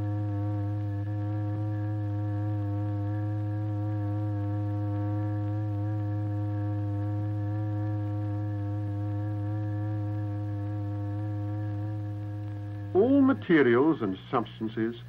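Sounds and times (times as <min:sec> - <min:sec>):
steady low electronic tone: 0:00.0 - 0:15.0.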